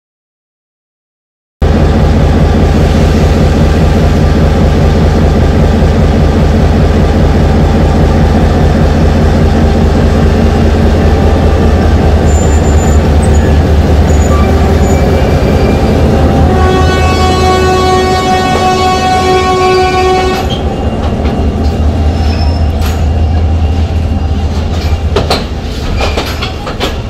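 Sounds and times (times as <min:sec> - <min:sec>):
locomotive engine running: 0:01.6 - 0:27.0.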